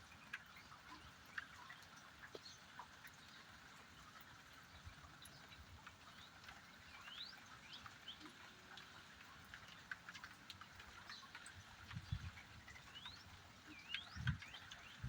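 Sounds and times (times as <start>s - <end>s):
light ticks: 0.1s - 15.0s.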